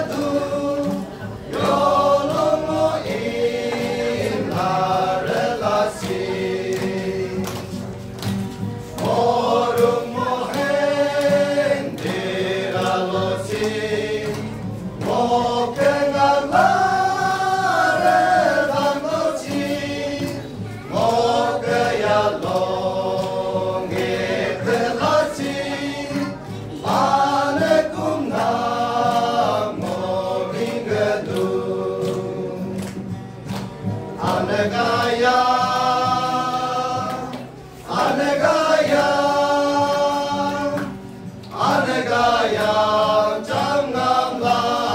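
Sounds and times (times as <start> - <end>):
men singing a hymn: 0.0 - 7.9, 8.8 - 33.1, 34.1 - 44.9
acoustic guitar: 0.0 - 44.9.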